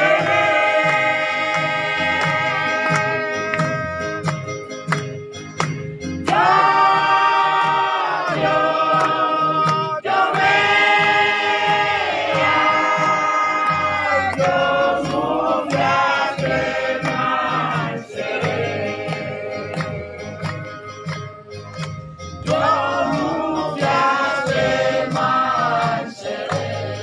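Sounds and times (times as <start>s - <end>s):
group singing slow song: 0.0s - 4.3s, 6.2s - 20.9s, 22.4s - 27.0s
low rhythmic accompaniment: 0.0s - 27.0s.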